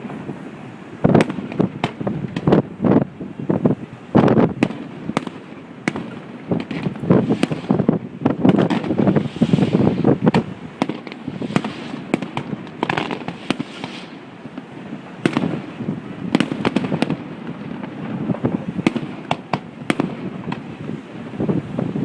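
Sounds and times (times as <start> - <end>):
fireworks cracks and bangs: 0.0 - 21.9.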